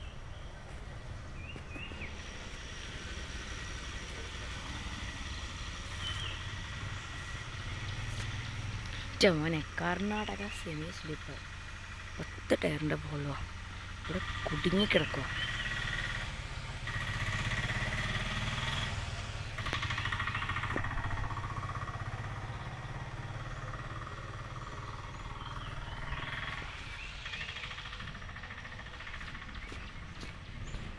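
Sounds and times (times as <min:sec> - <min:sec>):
birds chirping: 0:00.0 - 0:30.9
diesel engine idling: 0:00.0 - 0:30.9.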